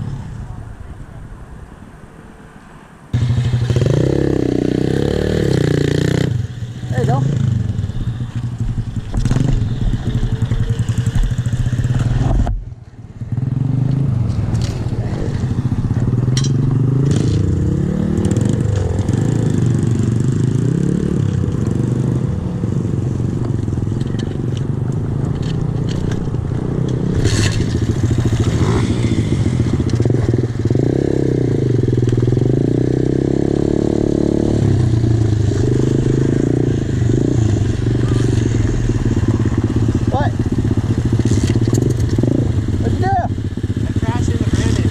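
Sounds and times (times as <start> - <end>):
motorbike engine revving: 3.2 - 12.5, 13.2 - 44.9.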